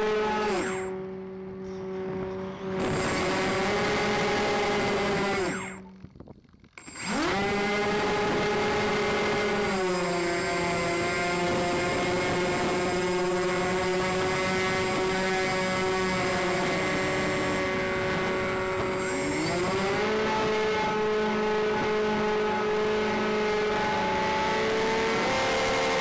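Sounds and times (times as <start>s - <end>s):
model airplane motors whining: 0.0s - 26.0s.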